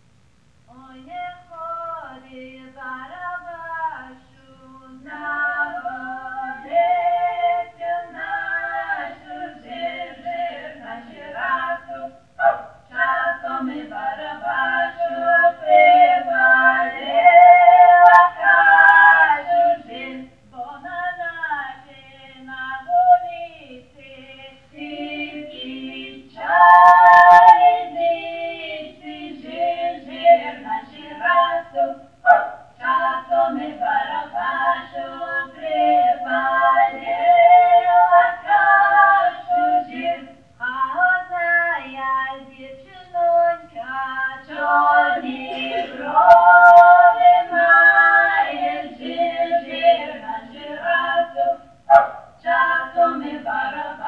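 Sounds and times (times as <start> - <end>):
voices singing in harmony: 0.7 - 54.0.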